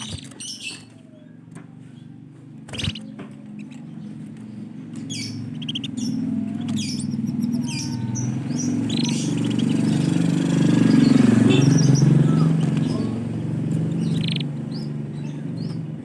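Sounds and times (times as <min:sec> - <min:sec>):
canaries chirping: 0:00.0 - 0:16.0
low engine-like hum: 0:00.0 - 0:16.0.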